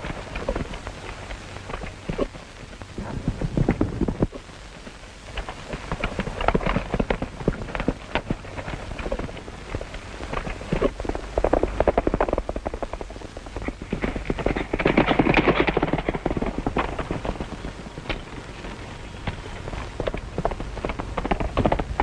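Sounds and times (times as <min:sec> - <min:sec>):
crackly film soundtrack noise: 0:00.0 - 0:22.0
horse hooves on rocky ground: 0:00.0 - 0:22.0.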